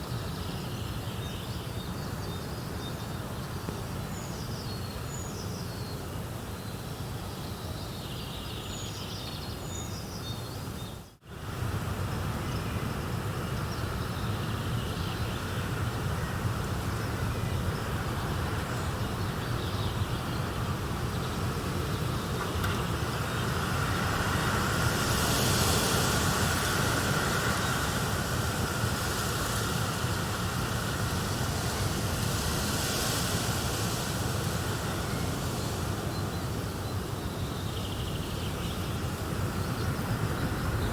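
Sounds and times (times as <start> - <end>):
continuous rushing hiss: 0.0 - 40.9.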